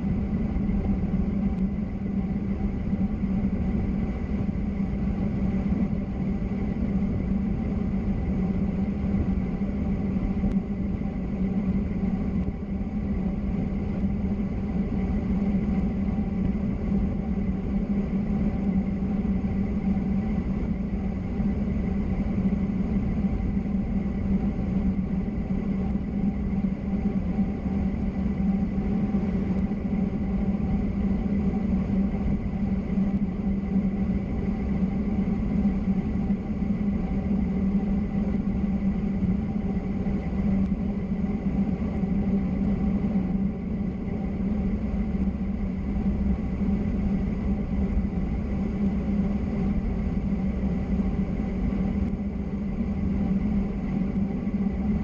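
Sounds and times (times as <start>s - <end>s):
faint steady tones: 0.0s - 55.0s
low drone of travel: 0.0s - 55.0s.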